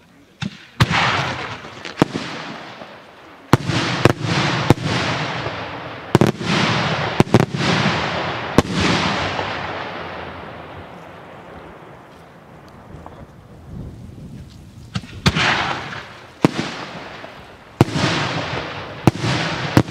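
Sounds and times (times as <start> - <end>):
long rolling echo: 0.7 - 14.1, 14.9 - 19.9.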